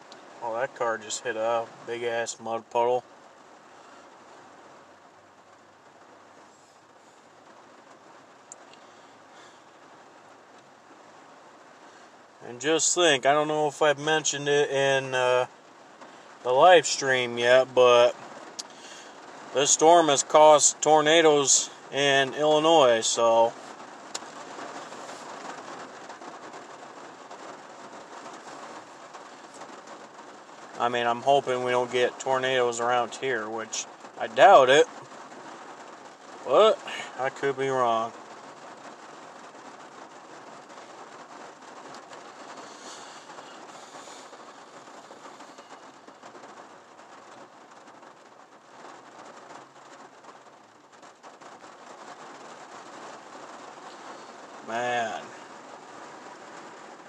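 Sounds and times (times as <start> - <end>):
rain on a truck roof: 0.0 - 57.0.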